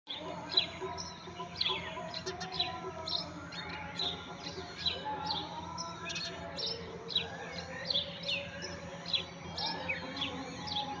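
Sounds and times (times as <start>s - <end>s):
sparrows chirping: 0.1s - 11.0s.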